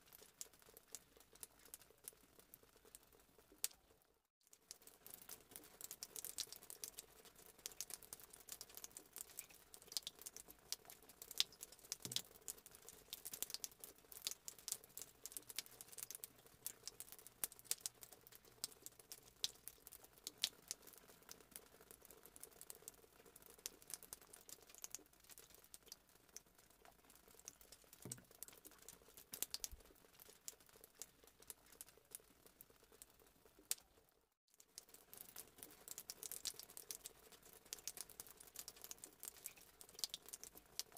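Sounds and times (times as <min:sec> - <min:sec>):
water simmering with small pops: 0:00.0 - 0:40.9.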